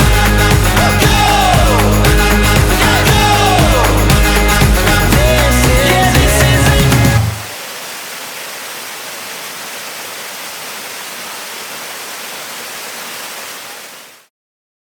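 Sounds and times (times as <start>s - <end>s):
whitewater river rushing: 0.0s - 14.2s.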